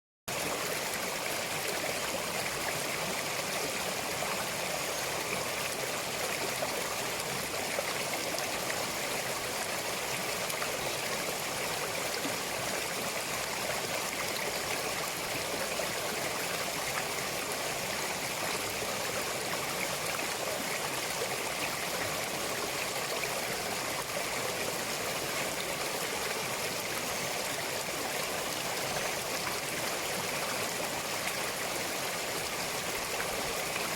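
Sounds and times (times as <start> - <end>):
stream flowing over rocks: 0.3 - 33.9.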